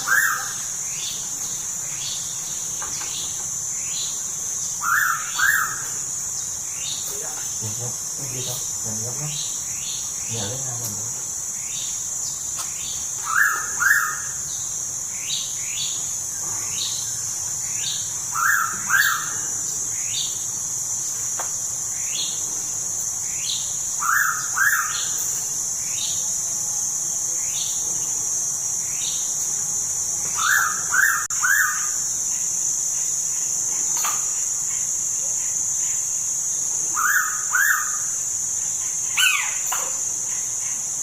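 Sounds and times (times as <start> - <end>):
high insect drone: 0.0 - 41.0.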